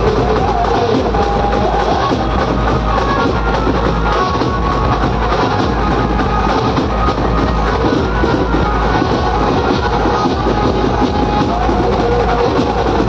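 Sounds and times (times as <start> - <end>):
band music through loudspeakers: 0.0 - 13.0.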